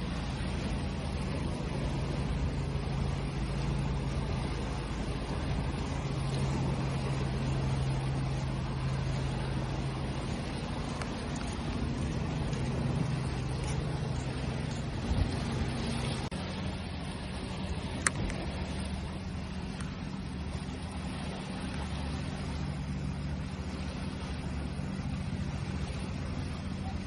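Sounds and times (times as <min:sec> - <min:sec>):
constant low hum: 0:00.0 - 0:27.0
ocean waves rushing: 0:00.0 - 0:27.0.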